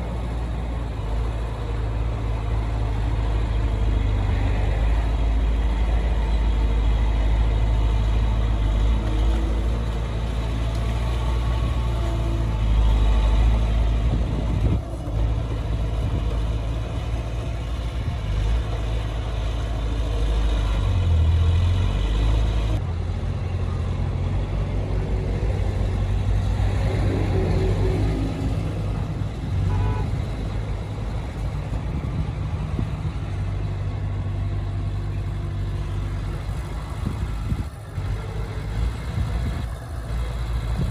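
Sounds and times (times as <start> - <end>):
diesel machinery engine rumble: 0.0 - 40.9.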